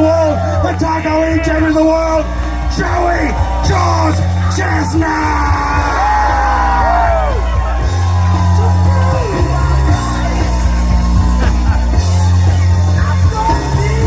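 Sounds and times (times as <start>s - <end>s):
loud rock music: 0.0s - 14.0s
people shouting: 0.0s - 14.0s.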